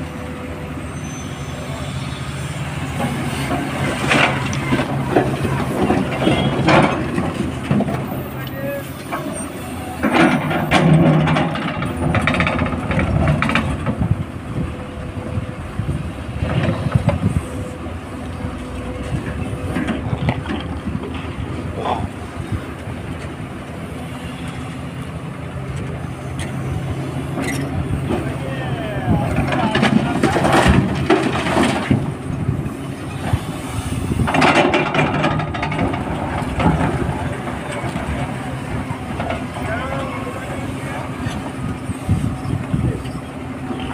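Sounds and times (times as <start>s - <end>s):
excavator running under load: 0.0s - 43.9s.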